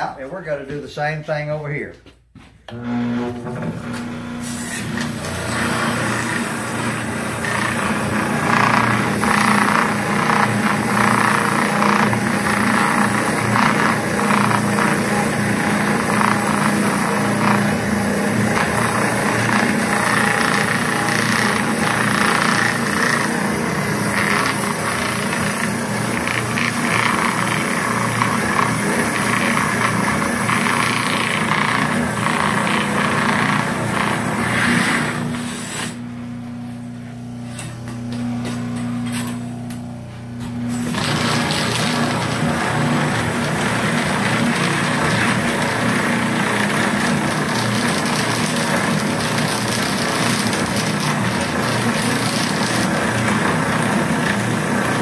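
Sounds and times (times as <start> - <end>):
electric motor hum: 2.7 - 55.0.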